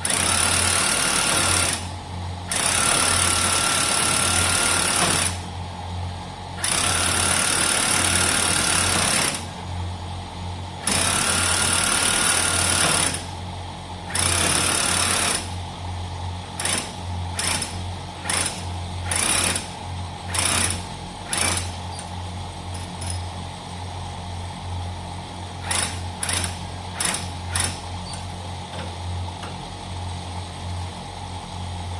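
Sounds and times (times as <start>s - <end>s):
electric pump hum: 0.0s - 31.9s.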